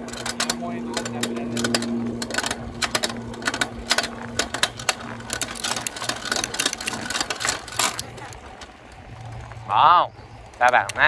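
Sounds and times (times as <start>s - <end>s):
bicycle clicking and rattling: 0.0s - 11.0s
low steady hum: 0.0s - 11.0s.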